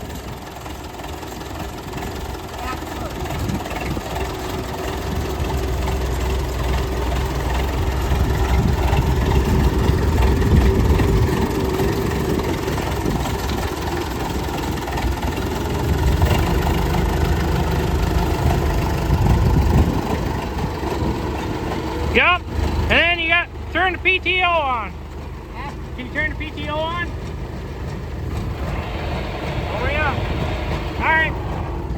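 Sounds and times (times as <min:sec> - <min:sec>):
tractor engine running: 0:00.0 - 0:31.9.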